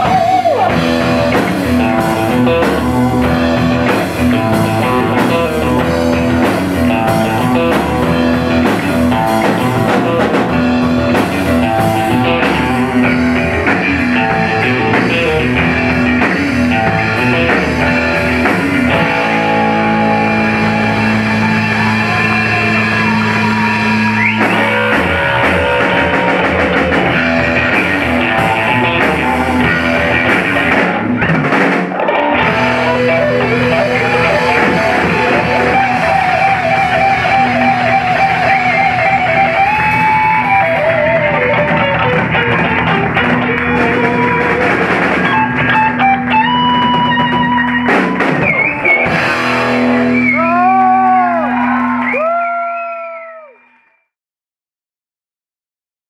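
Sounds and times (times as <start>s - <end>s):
live rock band playing: 0.0s - 52.6s
electric guitar: 0.0s - 53.7s.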